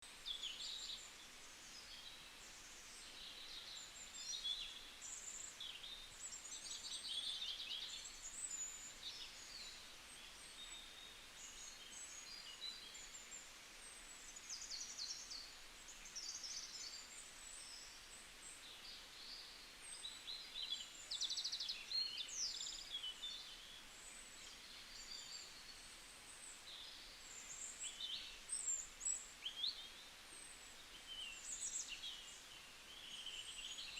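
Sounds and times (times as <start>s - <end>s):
faint background hiss: 0.0s - 33.9s
small birds singing and chirping: 0.0s - 33.9s.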